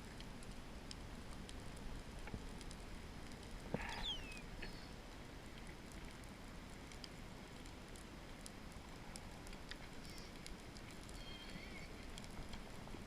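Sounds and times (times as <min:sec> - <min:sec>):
underwater clicks and crackles: 0:00.0 - 0:13.0.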